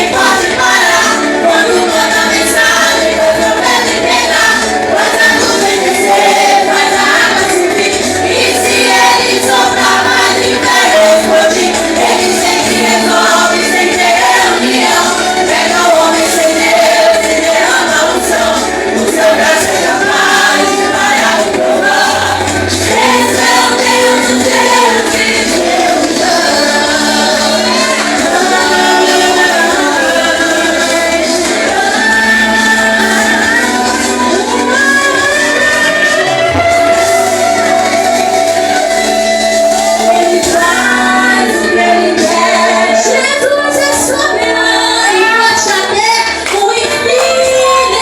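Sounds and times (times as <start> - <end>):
sustained bass: 0.0 - 45.6
group singing gospel music: 0.0 - 48.0
worship band playing: 0.0 - 48.0.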